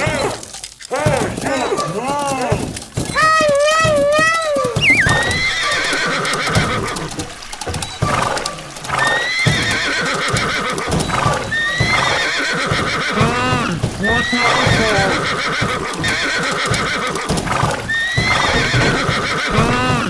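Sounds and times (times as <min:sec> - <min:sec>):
hooves clip-clopping: 0:00.0 - 0:20.0
horse whinnying: 0:00.0 - 0:20.0.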